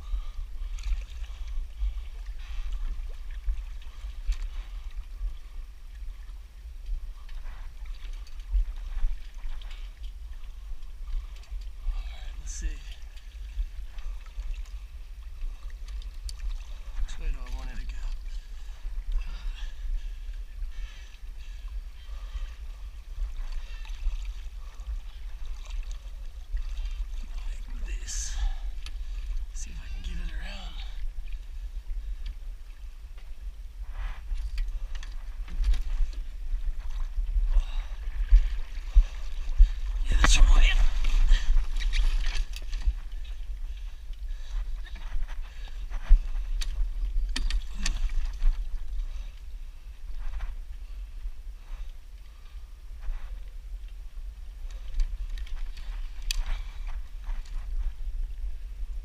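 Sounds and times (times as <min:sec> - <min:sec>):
water rushing against hulls: 0:00.0 - 0:58.6
wind buffeting microphone: 0:06.5 - 0:59.0.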